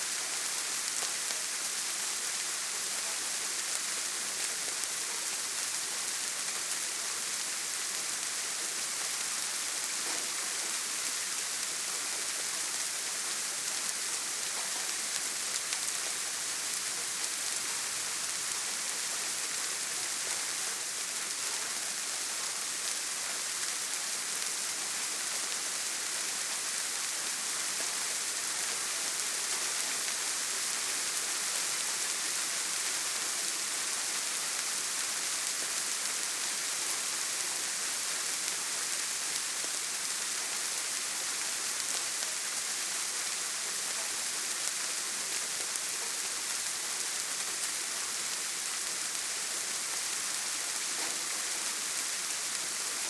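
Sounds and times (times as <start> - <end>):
rain on a tin roof: 0.0 - 53.0.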